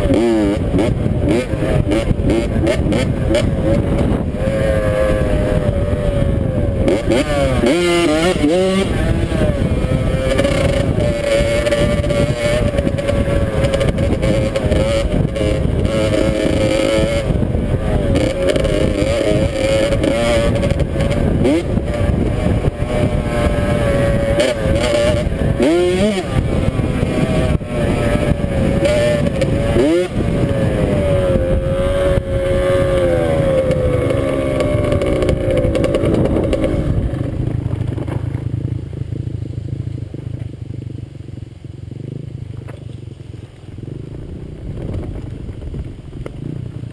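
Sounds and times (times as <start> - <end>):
dirt bike engine revving: 0.0 - 39.1.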